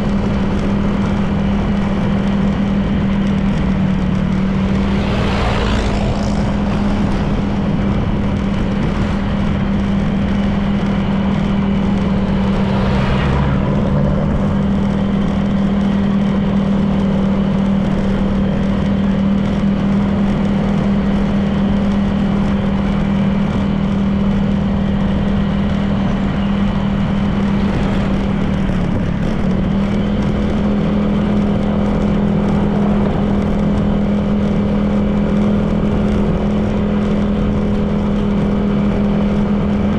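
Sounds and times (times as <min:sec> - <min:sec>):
scooter engine running: 0:00.0 - 0:39.9
wind and road noise: 0:00.0 - 0:39.9.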